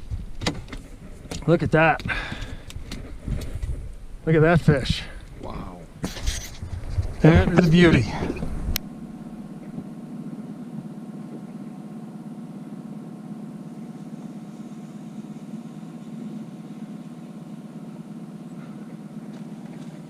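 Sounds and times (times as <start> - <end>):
outboard motor humming: 0.0 - 20.0.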